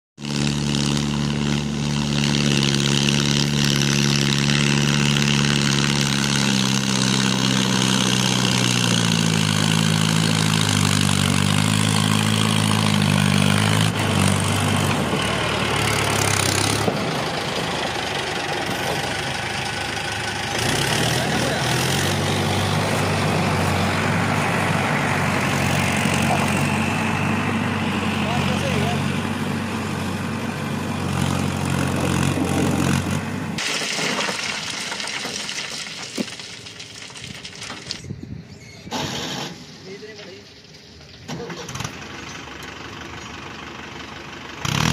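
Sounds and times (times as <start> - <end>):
rough noisy passing rumble: 0.2 - 44.8
tractor diesel engine running: 0.2 - 44.9.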